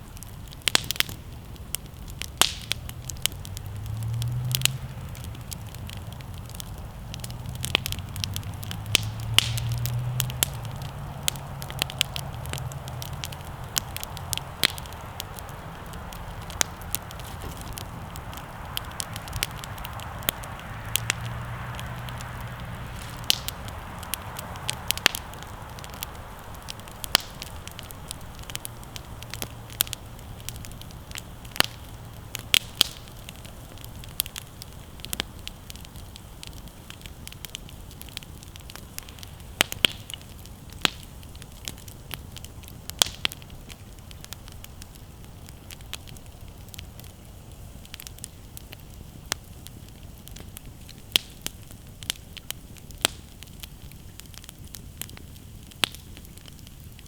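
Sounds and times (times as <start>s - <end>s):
campfire crackling: 0.0s - 57.0s
low rush of flames: 0.0s - 57.0s.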